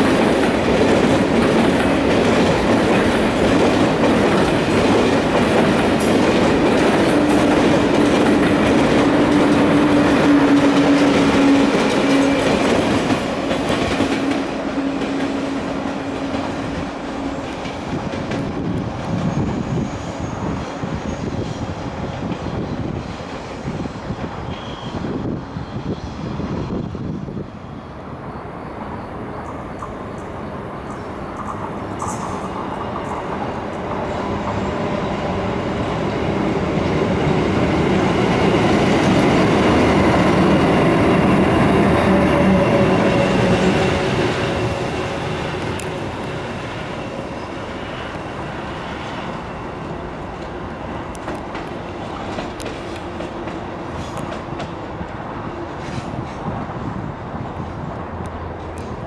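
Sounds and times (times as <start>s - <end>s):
train passing: 0.0s - 59.0s.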